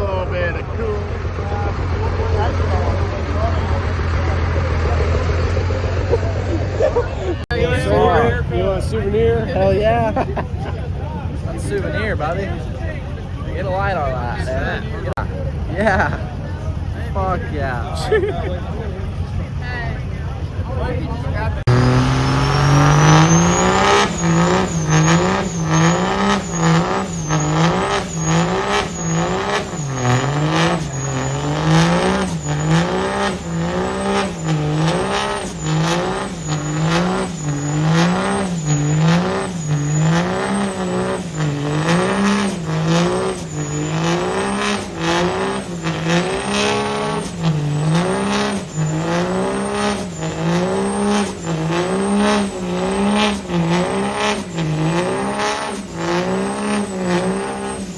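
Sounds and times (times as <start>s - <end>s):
truck engine revving: 0.0s - 57.9s.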